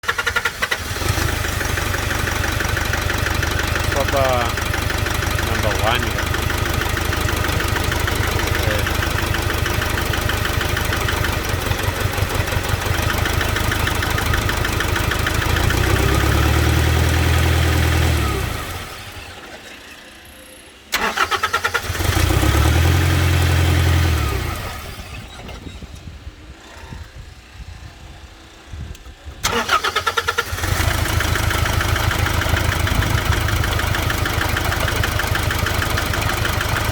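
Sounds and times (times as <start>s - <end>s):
engine idling with misfire: 0.0s - 36.9s.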